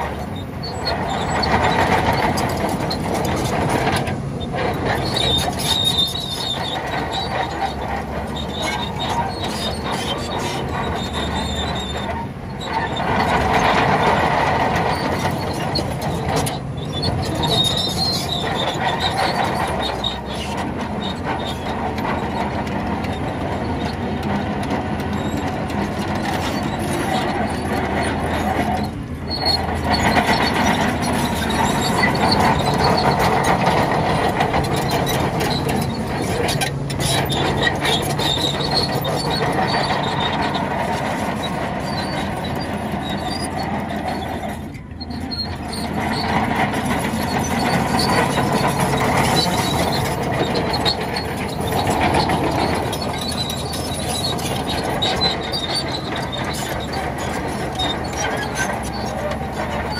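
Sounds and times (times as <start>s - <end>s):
bulldozer diesel engine: 0.0s - 59.9s
steel tracks squealing: 0.0s - 59.9s.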